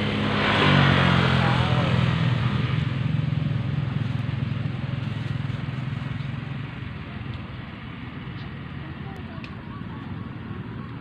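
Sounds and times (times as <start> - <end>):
vehicle engine pulsing hum: 0.0 - 11.0.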